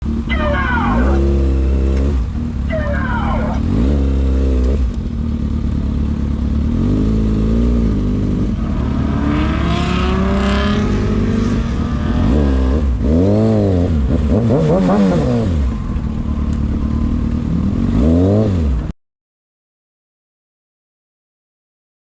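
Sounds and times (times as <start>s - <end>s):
car accelerating: 0.0s - 18.9s
car engines revving: 0.0s - 18.9s.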